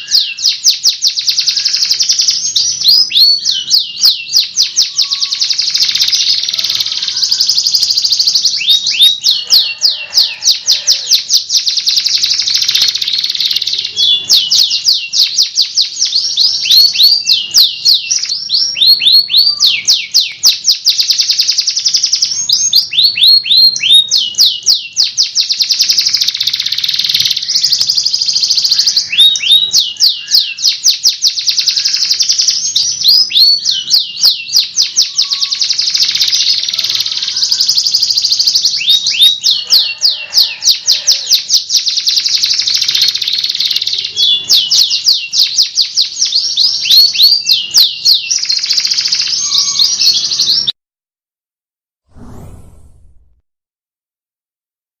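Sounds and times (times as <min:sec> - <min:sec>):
canary singing trills: 0:00.0 - 0:50.8.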